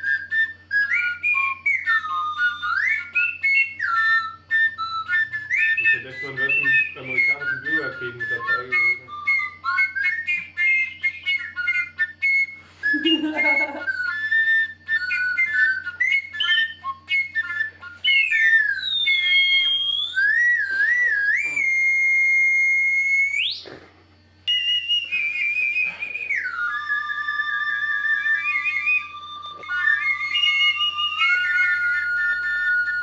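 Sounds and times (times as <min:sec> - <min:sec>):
wooden flute playing: 0:00.0 - 0:23.9, 0:24.5 - 0:33.0.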